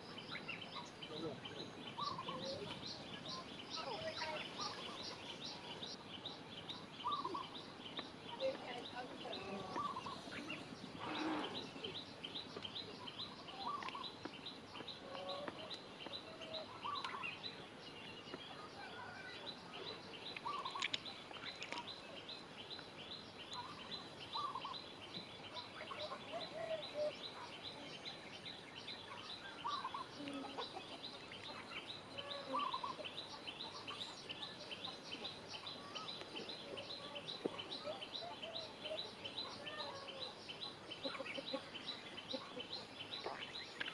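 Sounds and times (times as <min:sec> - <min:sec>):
mid-pitched bird calls: 0:00.2 - 0:43.9.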